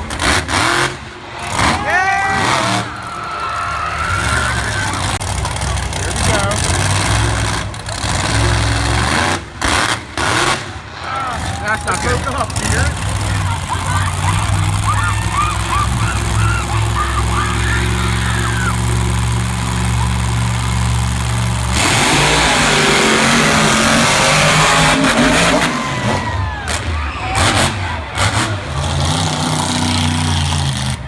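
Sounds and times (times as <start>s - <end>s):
monster truck engines running: 0.0s - 31.0s.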